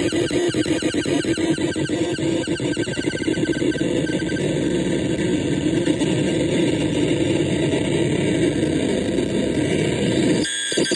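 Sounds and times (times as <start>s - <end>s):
low rough noise drone: 0.0s - 10.9s.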